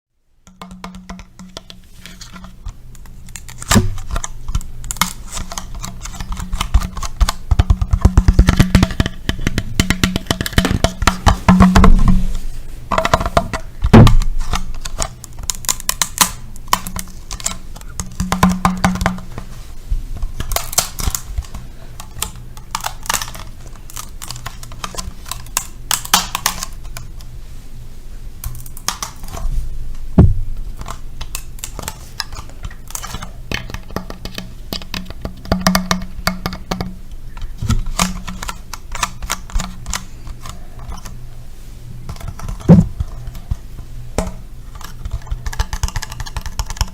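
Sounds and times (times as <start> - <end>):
low steady hum: 0.1 - 46.9
tapping and scratching on objects: 0.5 - 27.3, 28.4 - 29.5, 30.2 - 41.2, 42.0 - 46.9.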